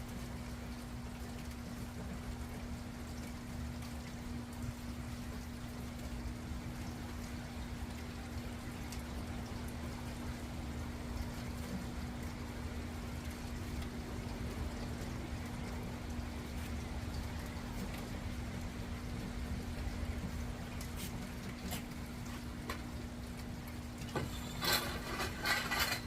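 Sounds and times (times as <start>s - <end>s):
steady rain falling: 0.0s - 26.0s
faint drip ticks: 0.1s - 24.1s.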